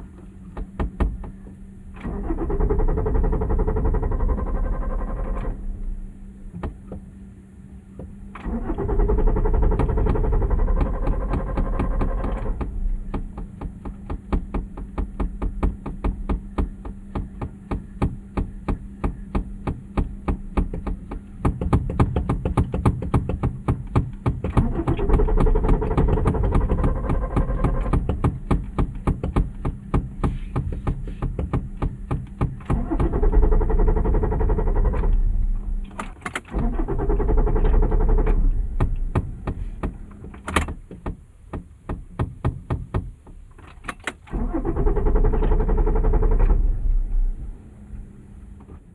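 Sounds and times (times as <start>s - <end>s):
car engine cranking without starting: 0.0s - 7.2s, 8.0s - 42.2s, 43.1s - 48.9s.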